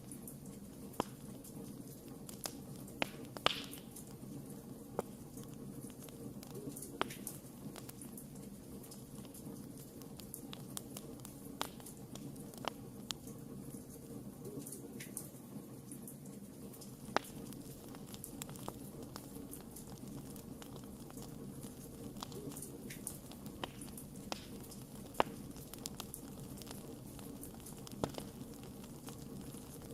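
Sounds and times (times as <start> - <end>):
low hiss of burning: 0.0 - 29.9
wood fire crackling: 0.0 - 29.9.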